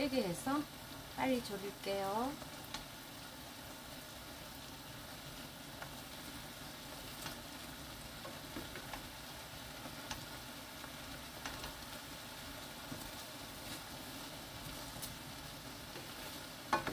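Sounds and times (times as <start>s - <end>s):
liquid bubbling and sizzling in pan: 0.0s - 16.9s.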